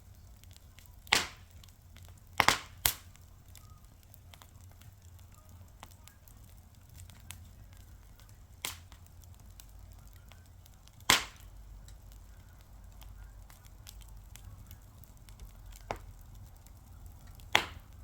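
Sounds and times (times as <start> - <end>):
fire popping: 0.0 - 18.0
low rumble of burning: 0.0 - 18.0
wood fire crackling: 0.0 - 18.0.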